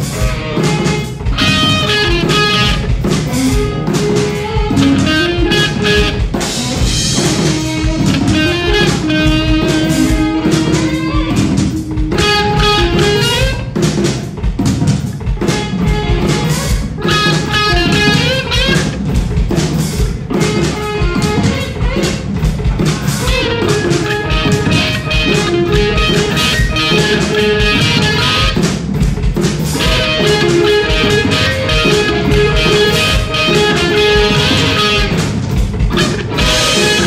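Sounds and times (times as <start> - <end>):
bass guitar: 0.0 - 37.0
drum kit steady beat: 0.0 - 37.0
electric guitars: 0.0 - 37.0.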